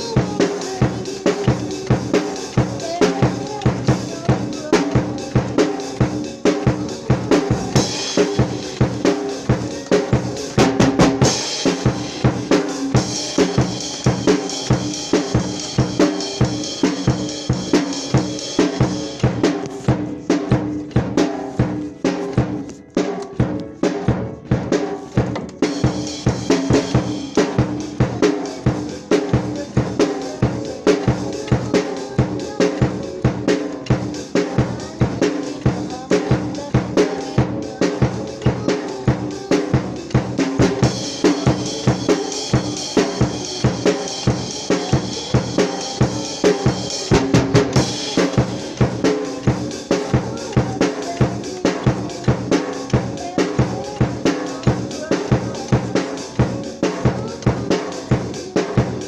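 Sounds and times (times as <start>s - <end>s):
cymbals: 0.0s - 59.0s
drum kit playing beat: 0.0s - 59.0s.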